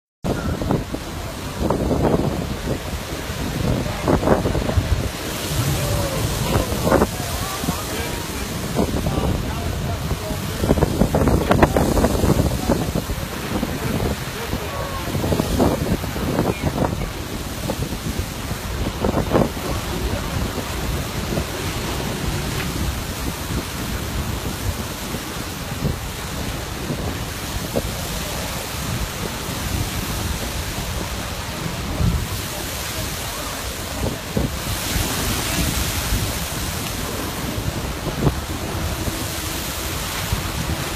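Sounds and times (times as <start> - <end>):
surf churning: 0.2 - 40.9
wind on microphone: 0.2 - 40.9.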